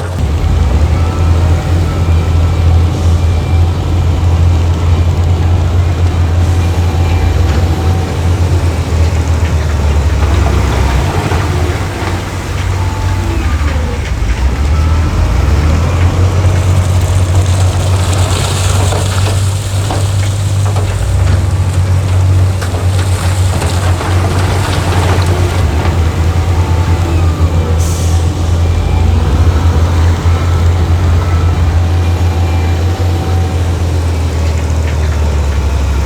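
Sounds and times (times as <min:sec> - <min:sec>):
heavy diesel engine droning: 0:00.0 - 0:36.0.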